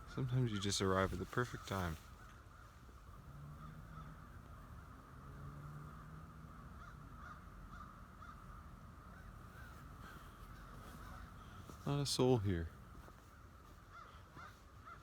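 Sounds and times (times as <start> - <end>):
distant crows cawing: 0.0 - 15.0.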